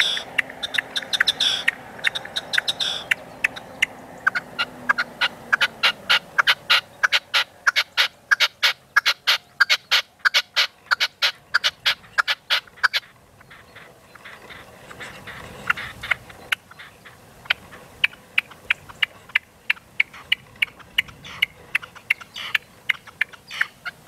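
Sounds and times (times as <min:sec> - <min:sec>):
partridge calling with sharp clicks: 0:00.0 - 0:24.0.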